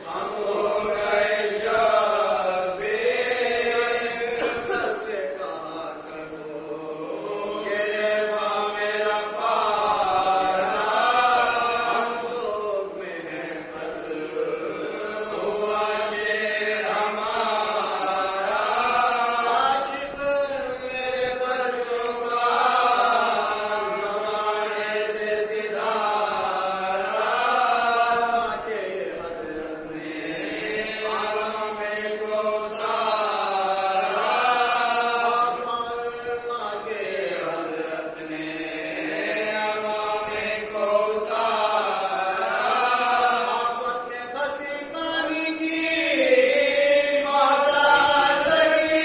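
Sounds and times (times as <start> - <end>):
men chanting in chorus: 0.0 - 49.0.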